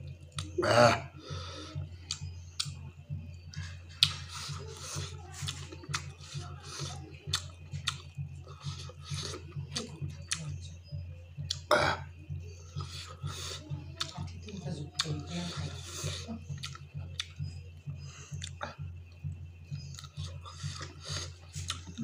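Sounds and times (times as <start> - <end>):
low electrical hum: 0.0 - 22.0
chewing and lip-smacking: 0.1 - 0.6, 2.0 - 11.7, 12.8 - 22.0.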